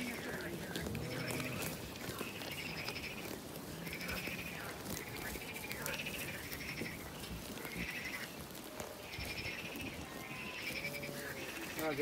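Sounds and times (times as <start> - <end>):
grass being cropped: 0.0 - 12.0
sheep bleating: 0.0 - 12.0.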